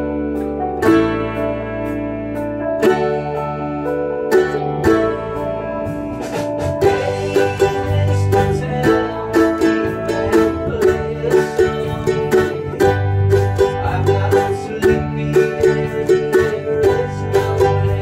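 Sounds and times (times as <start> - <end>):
folk-rock backing track: 0.0 - 18.0
ukulele strummed: 0.0 - 18.0.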